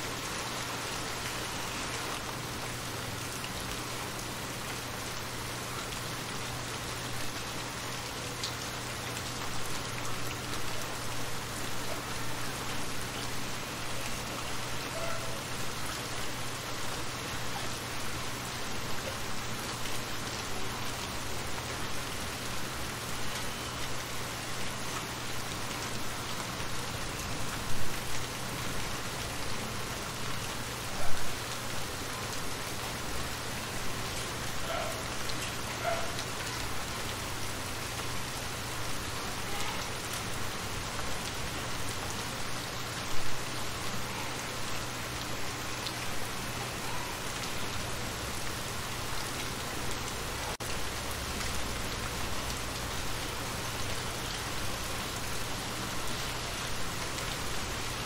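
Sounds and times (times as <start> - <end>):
rain falling onto water: 0.0 - 58.0.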